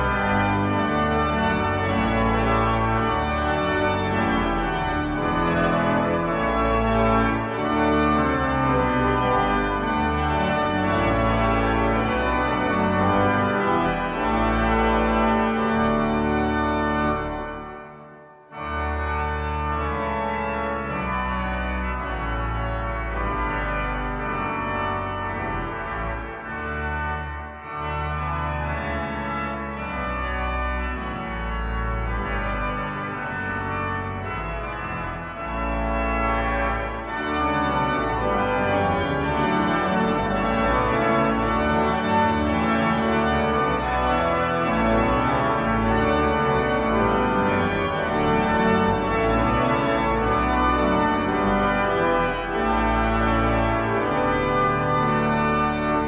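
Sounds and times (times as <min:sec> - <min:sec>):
pipe organ playing chords: 0:00.0 - 0:56.0.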